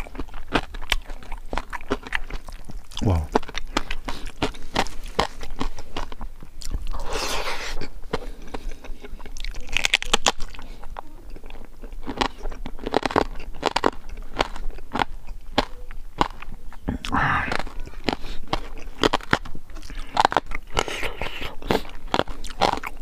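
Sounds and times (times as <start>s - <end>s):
crunchy chewing: 0.0s - 23.0s.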